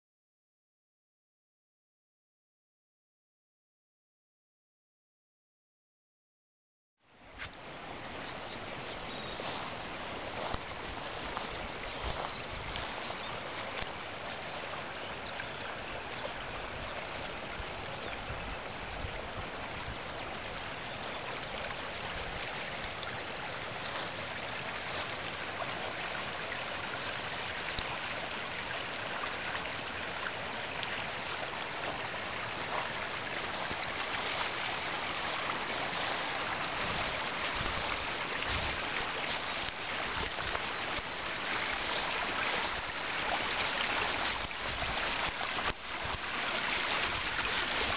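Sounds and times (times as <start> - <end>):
stream rushing over waterfall: 7.2 - 47.9.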